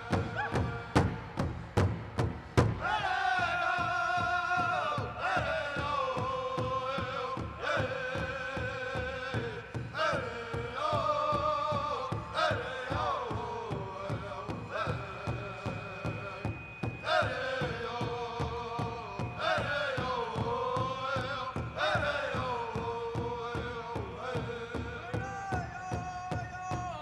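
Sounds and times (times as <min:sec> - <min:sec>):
group singing high phrases: 0:00.0 - 0:01.2, 0:02.8 - 0:27.0
steady drum beat: 0:00.0 - 0:27.0.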